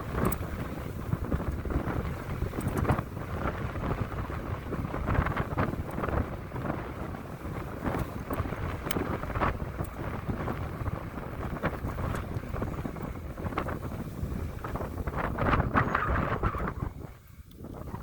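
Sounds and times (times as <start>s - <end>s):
tyre noise on dirt road: 0.0s - 18.0s
wind buffeting microphone: 0.0s - 18.0s.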